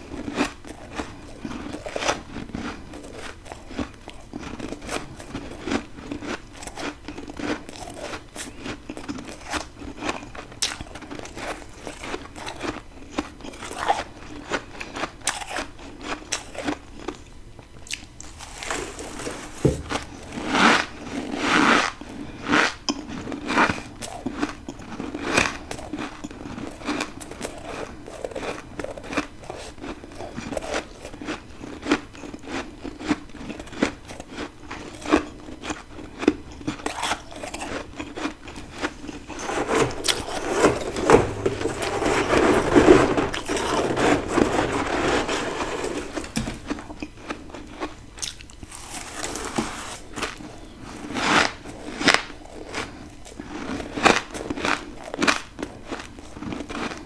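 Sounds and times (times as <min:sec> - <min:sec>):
person chewing ice: 0:00.1 - 0:17.2, 0:22.2 - 0:57.0.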